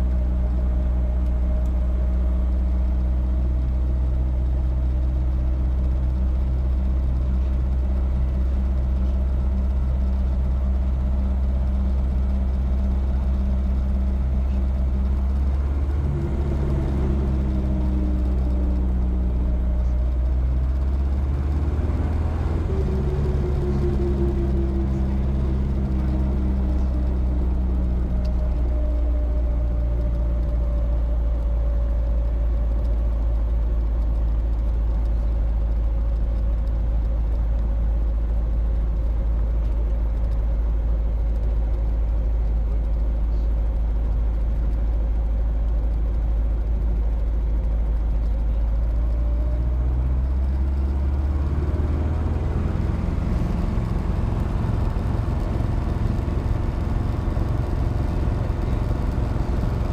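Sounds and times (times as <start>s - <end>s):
helicopter engine and rotor drone: 0.0s - 49.6s, 50.2s - 59.9s.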